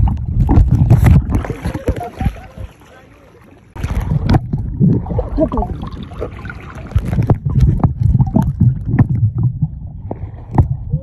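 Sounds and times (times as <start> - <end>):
underwater rumble of moving water: 0.0 - 11.0.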